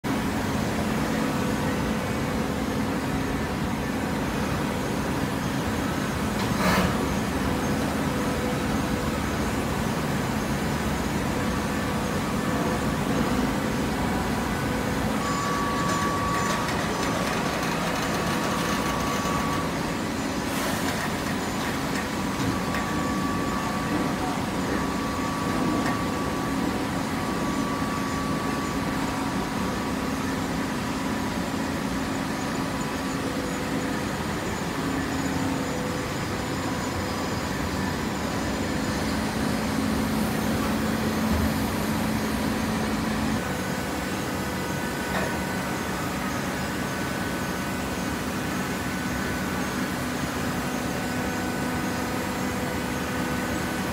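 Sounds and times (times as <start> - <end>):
baler machine drone: 0.1 - 53.9.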